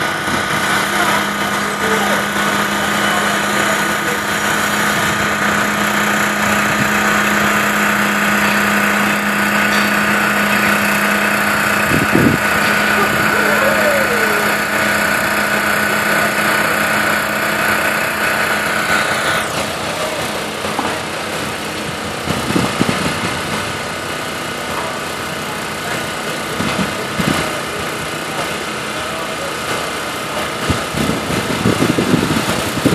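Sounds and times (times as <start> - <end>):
machinery engine running: 0.0 - 32.9.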